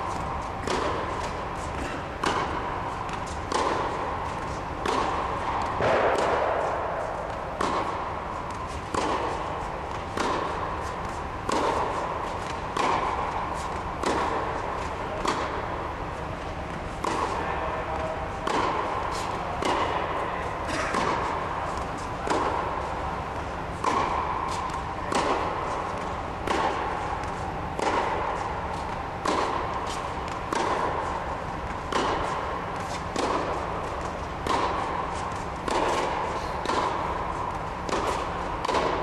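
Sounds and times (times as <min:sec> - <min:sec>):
tennis ball bouncing on hard court: 0:00.0 - 0:39.0
tennis ball struck by racket: 0:00.0 - 0:39.0.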